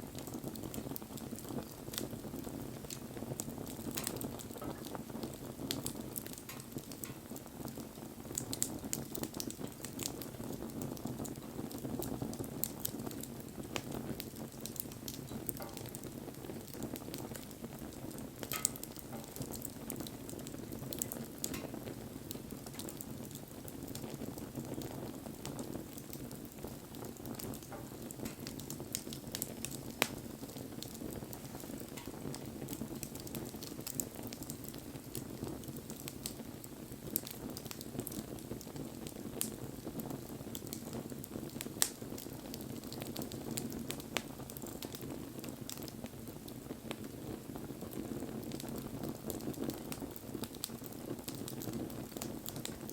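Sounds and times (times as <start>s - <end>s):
bonfire crackling and hissing: 0.0s - 52.9s
burning wood popping: 0.1s - 52.9s.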